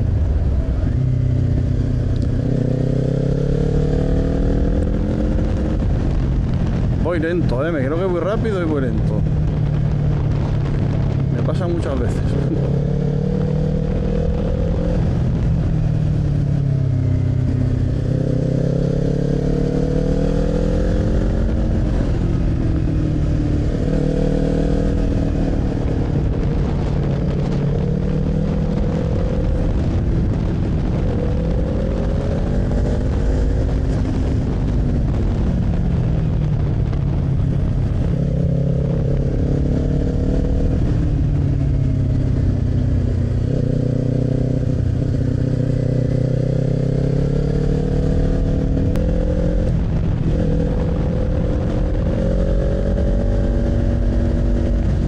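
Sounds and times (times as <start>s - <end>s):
motorcycle engine accelerating: 0.0s - 55.0s
steady rush of noise: 0.0s - 55.0s.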